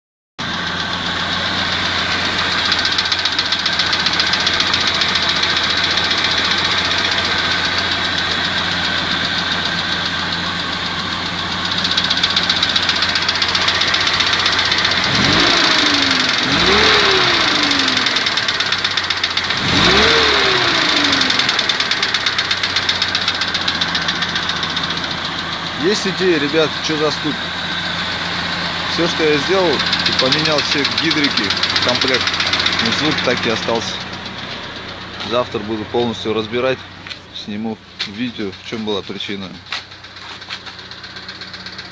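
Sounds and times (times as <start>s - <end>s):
engine idling with rhythmic knock: 0.4s - 41.9s.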